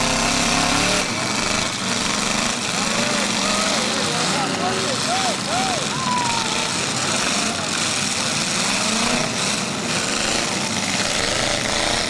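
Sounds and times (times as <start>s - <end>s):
car engines running together: 0.0s - 12.0s.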